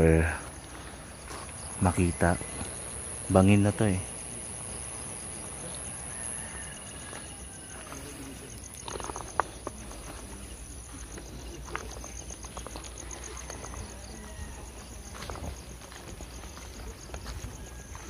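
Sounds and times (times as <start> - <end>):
fast pulsing insect chirp: 0.0 - 18.0
insects high trill: 0.0 - 18.0.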